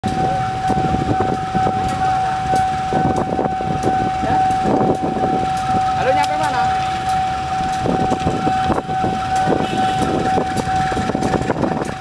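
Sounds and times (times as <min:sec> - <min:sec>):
low rumbling: 0:00.0 - 0:12.0
steady warning tone: 0:00.1 - 0:12.0.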